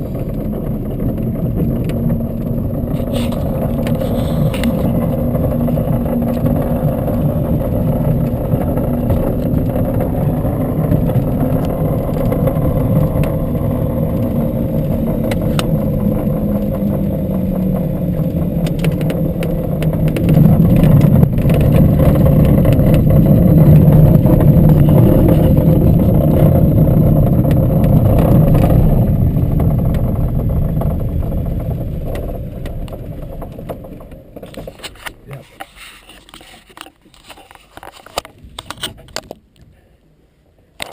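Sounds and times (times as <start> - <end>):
light aircraft engine and propeller: 0.0 - 35.1.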